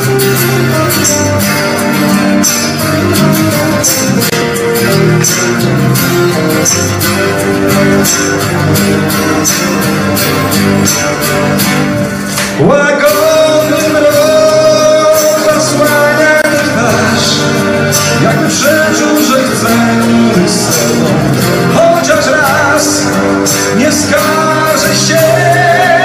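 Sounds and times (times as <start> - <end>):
acoustic guitars strummed: 0.0 - 26.0.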